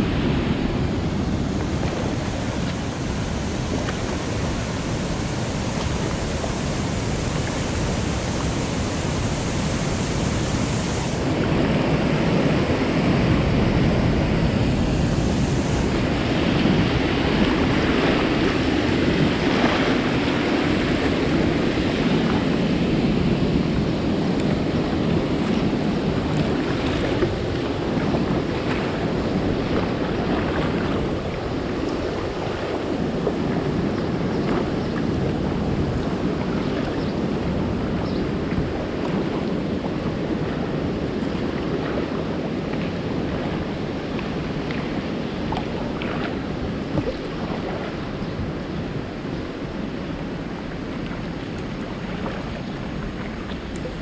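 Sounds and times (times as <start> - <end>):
churning river current: 0.0 - 54.0
water rushing over spillway: 0.0 - 54.0
wind on microphone: 0.0 - 54.0.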